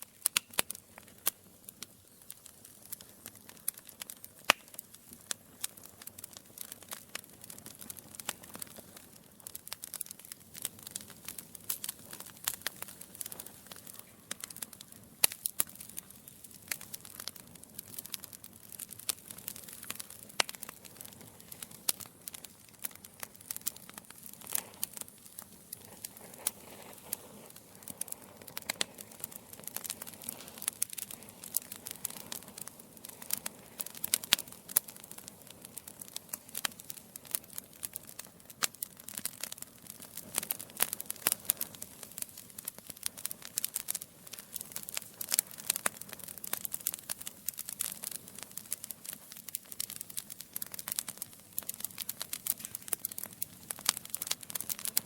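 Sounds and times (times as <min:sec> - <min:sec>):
fire hissing: 0:00.0 - 0:55.0
logs crackling and popping: 0:00.0 - 0:55.0.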